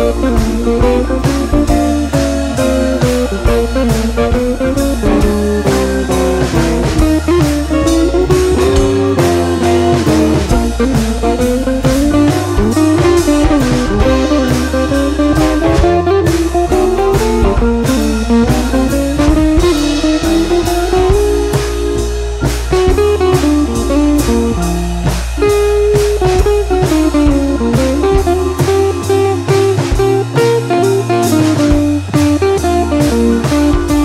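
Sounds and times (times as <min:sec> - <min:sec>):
blues-rock music: 0:00.0 - 0:34.0.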